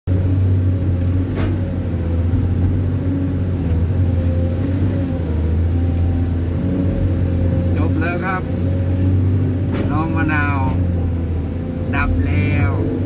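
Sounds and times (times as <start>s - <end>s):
vehicle engine humming: 0.1s - 13.0s.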